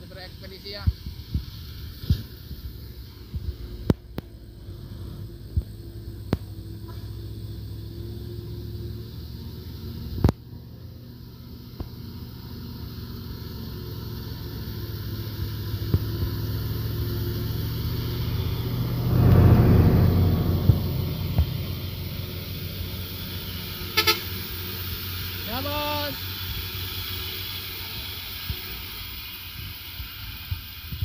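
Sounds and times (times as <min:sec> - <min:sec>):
diesel truck engines droning: 0:00.0 - 0:30.8.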